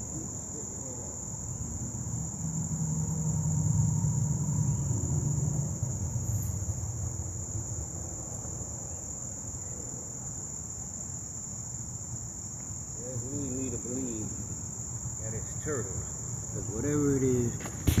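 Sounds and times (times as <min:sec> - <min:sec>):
high-pitched insects chorus: 0:00.0 - 0:18.0.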